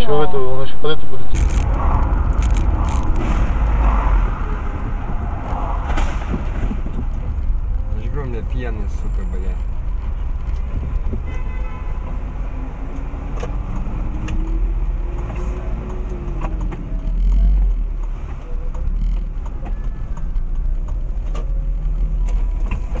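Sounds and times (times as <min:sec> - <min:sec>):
car engine and road rumble: 0:01.3 - 0:23.0.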